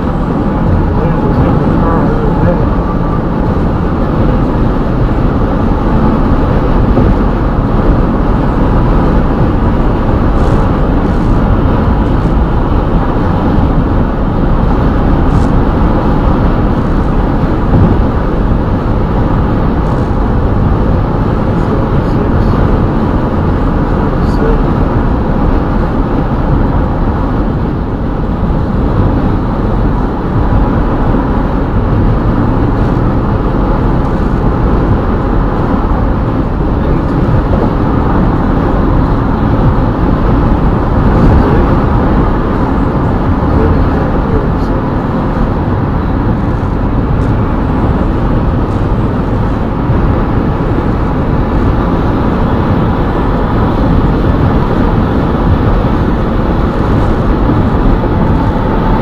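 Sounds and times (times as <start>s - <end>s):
car road noise at highway speed: 0.0s - 59.0s.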